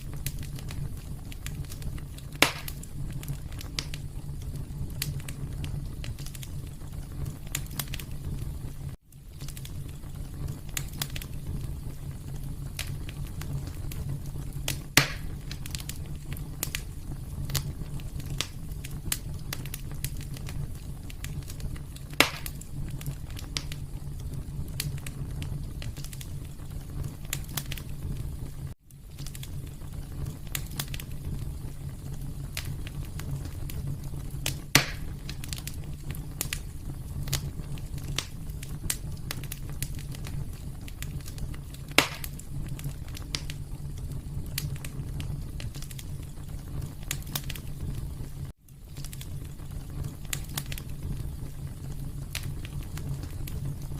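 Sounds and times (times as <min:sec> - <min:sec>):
fire popping: 0:00.0 - 0:53.9
wood fire crackling: 0:00.0 - 0:53.9.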